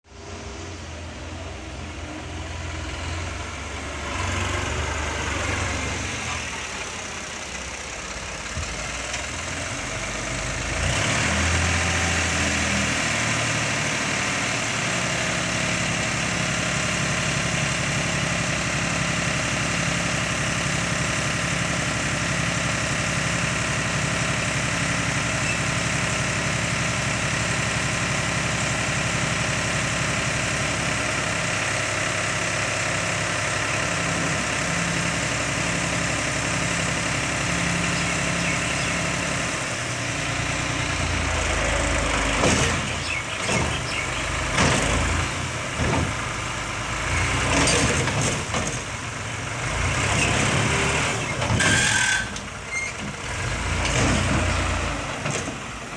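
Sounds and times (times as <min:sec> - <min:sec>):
tractor diesel engine idling: 0:00.0 - 0:55.9.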